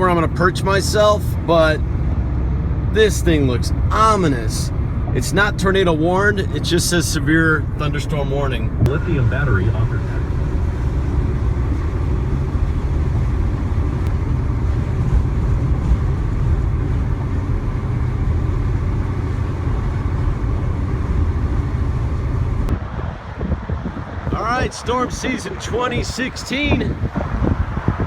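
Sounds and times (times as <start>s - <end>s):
car rumble with road and wind noise: 0.0s - 28.0s.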